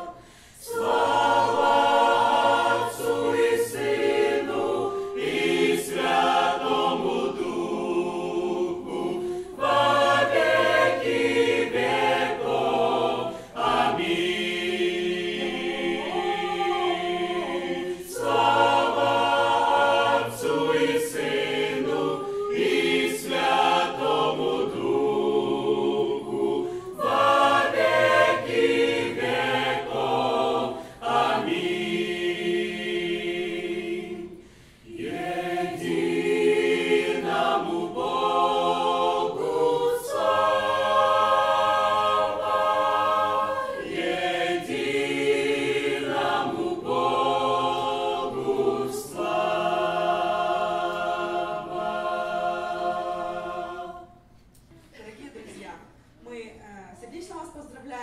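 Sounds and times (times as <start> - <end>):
church choir singing: 0.0 - 54.5.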